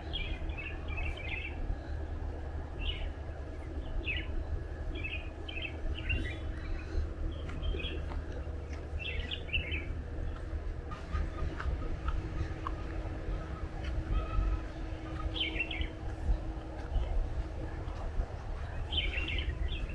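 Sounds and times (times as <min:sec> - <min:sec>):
songbirds chirping: 0:00.0 - 0:19.9
steady low rumble: 0:00.0 - 0:19.9.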